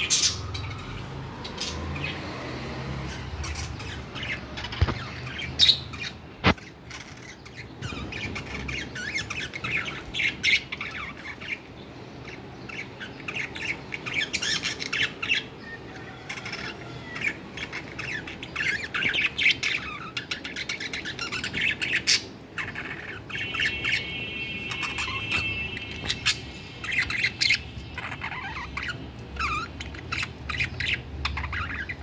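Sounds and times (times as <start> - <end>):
budgerigars chirping: 0.0 - 32.0.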